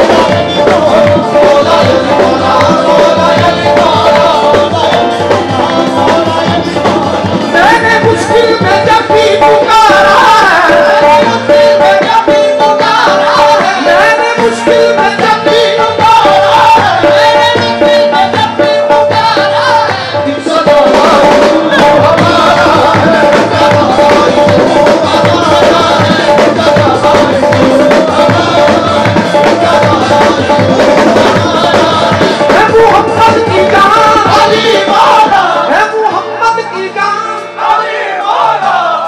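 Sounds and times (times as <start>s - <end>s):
tabla drumming: 0.0s - 36.7s
man singing: 0.0s - 37.9s
harmonium: 0.0s - 39.0s.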